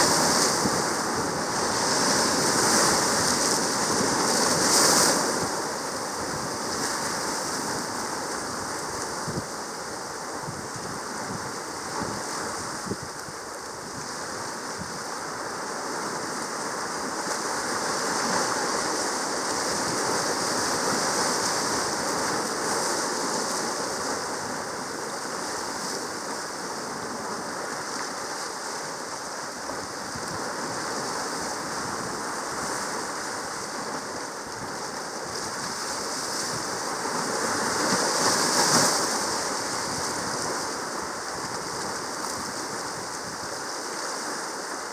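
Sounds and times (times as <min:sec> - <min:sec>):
sea water rushing: 0:00.0 - 0:44.9.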